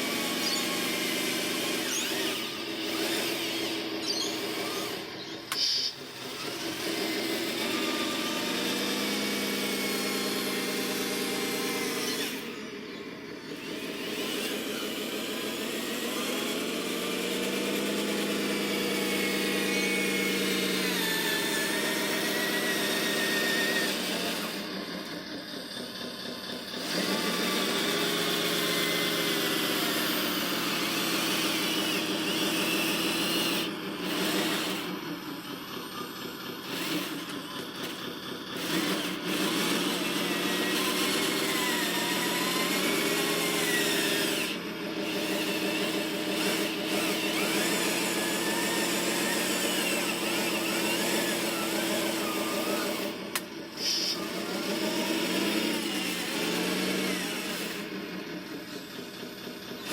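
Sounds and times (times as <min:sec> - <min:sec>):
small electric motors whining: 0:00.0 - 0:59.9.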